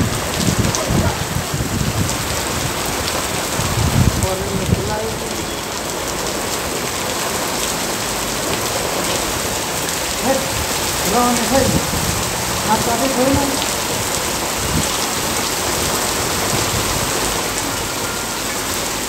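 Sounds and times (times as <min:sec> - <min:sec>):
low rumbling gusts: 0:00.0 - 0:18.0
torrential rain hissing: 0:00.0 - 0:19.0.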